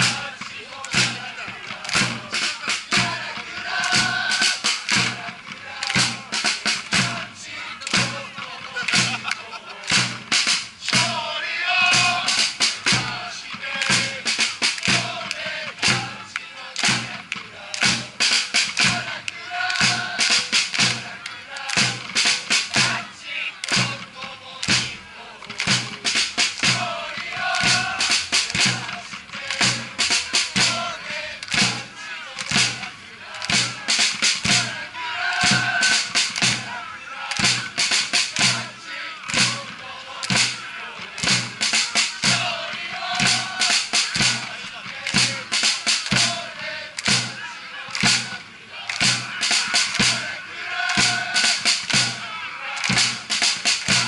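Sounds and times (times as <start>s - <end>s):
crowd chanting in unison: 0.0s - 54.0s
steady drum beat: 0.0s - 54.0s.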